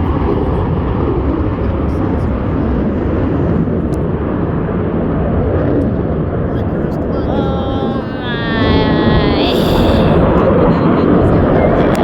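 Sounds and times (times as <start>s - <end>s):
jet planes flying past: 0.0s - 9.6s, 10.2s - 12.0s.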